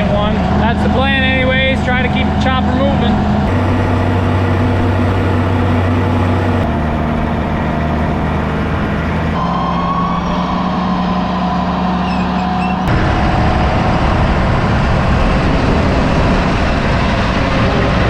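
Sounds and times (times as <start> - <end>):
faint high whine: 0.0 - 18.0
tractor engine running: 0.0 - 18.0.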